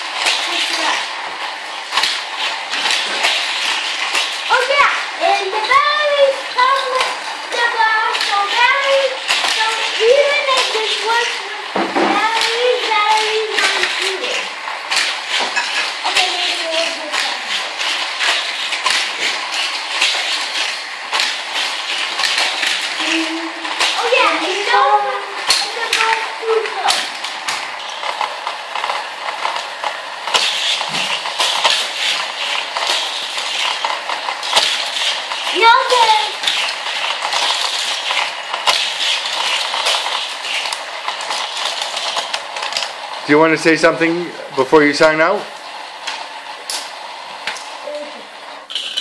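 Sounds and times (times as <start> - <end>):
plastic toy cars clattering: 0.0 - 49.0
plastic track pieces rattling: 0.0 - 49.0.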